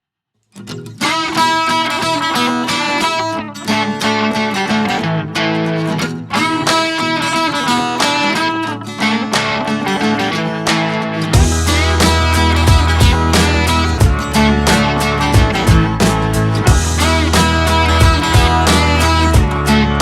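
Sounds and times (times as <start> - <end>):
guitar music plucked and strummed: 0.4 - 20.0.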